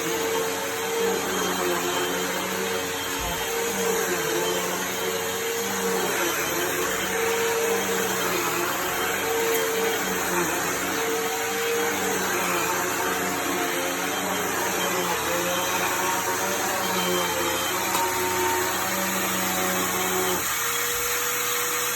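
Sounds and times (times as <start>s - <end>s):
vacuum cleaner running: 0.0s - 21.9s.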